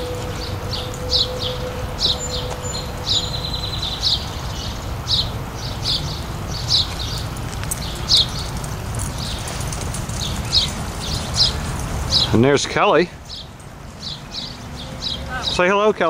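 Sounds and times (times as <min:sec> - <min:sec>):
bird trill: 0:00.0 - 0:15.7
songbird chirping: 0:00.0 - 0:16.0.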